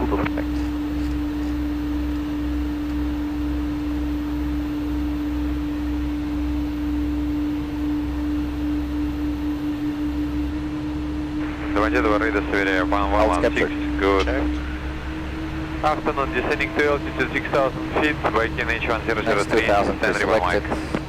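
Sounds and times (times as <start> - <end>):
airflow and jet engine noise: 0.0 - 21.0
low rumble: 0.0 - 21.0
single-pitched hum: 0.0 - 21.0.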